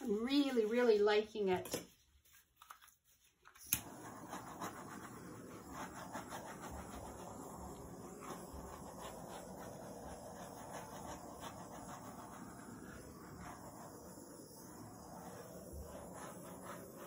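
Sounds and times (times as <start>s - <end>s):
torch flame hissing: 0.0s - 1.6s, 3.5s - 17.0s.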